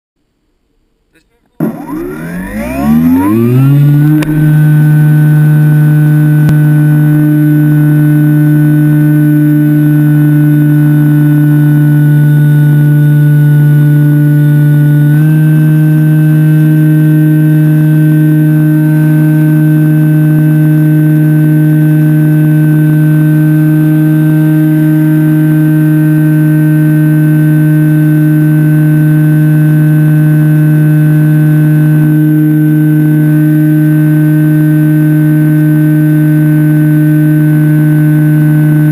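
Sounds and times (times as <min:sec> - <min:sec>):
electric motor and propeller: 0:01.6 - 0:38.9.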